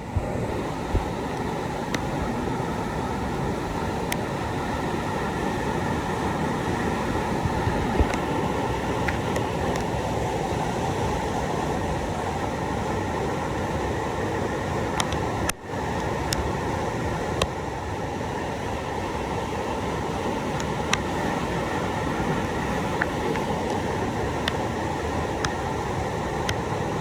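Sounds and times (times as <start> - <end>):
river rapids rushing: 0.0 - 27.0.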